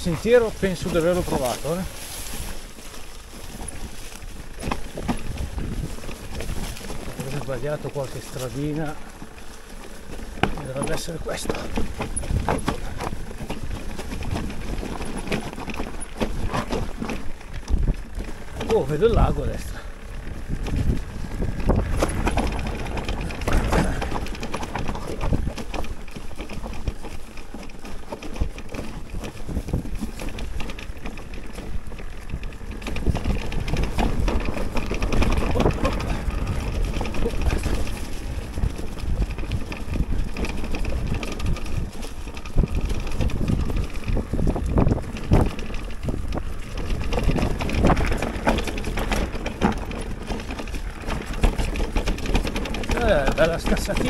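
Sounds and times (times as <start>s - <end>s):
bike frame rattling: 0.0s - 54.0s
tyre and wind rush: 0.0s - 54.0s.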